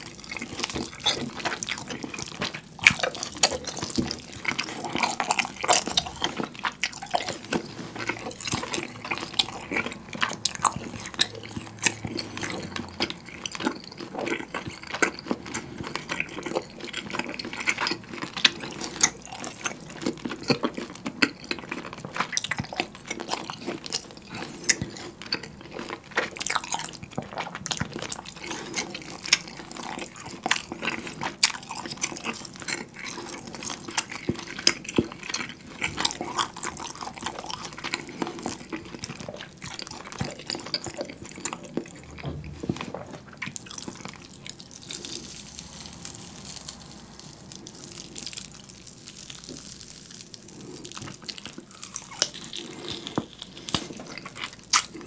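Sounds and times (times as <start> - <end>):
wet chewing of steak: 0.0 - 55.0.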